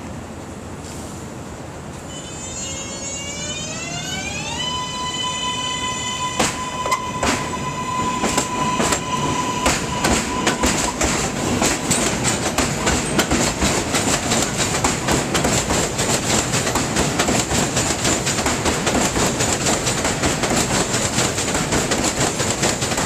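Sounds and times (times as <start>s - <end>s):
subway train wheels clacking: 0.0s - 23.0s.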